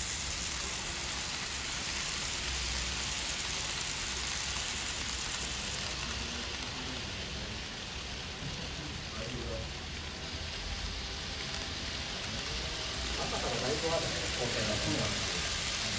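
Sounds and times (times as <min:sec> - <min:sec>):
steady hissing: 0:00.0 - 0:15.9.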